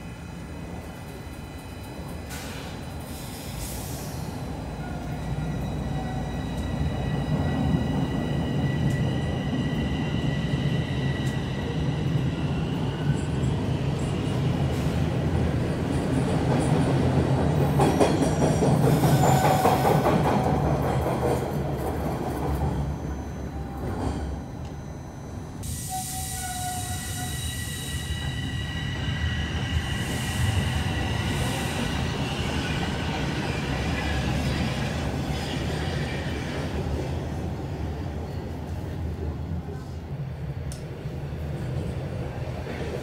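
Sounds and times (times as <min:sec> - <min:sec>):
rumble of wheels on rail: 0:00.0 - 0:43.0
subway train high whine: 0:00.0 - 0:43.0.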